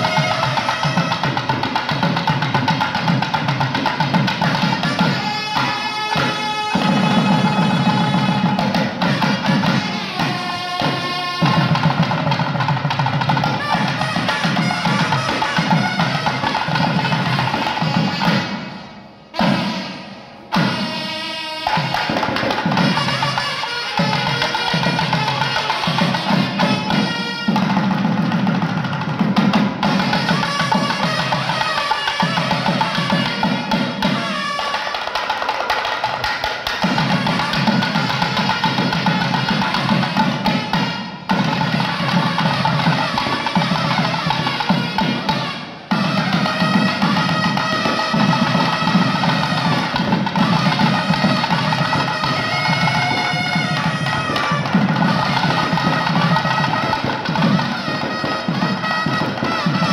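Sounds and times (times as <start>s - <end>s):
large drums beating: 0.0s - 21.0s, 21.7s - 34.6s, 35.8s - 59.9s.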